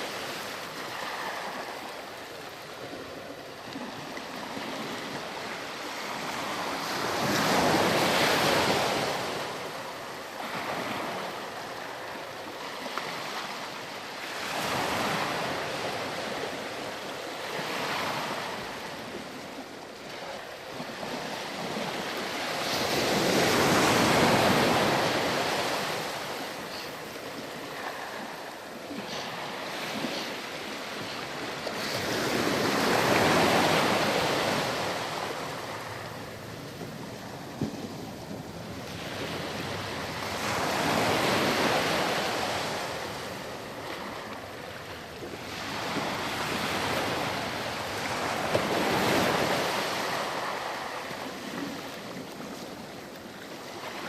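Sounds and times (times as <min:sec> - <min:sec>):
waves breaking on sandy beach: 0:00.0 - 0:54.0.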